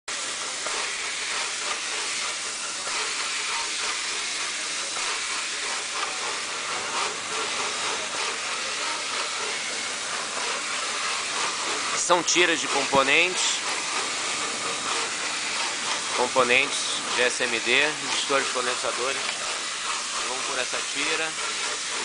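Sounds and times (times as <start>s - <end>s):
machine hiss: 0.1s - 22.0s.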